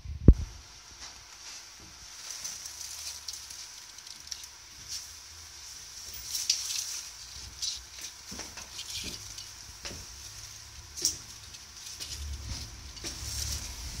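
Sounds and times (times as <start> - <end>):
stiff leaves rustling in fingers: 1.2 - 14.0.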